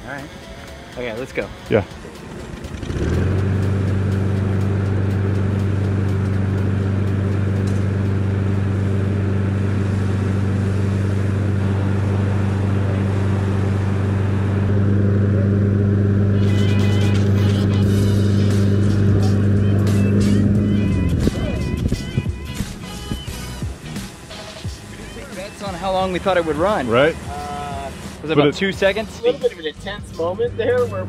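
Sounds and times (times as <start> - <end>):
lawnmower engine humming: 0.4 - 31.0.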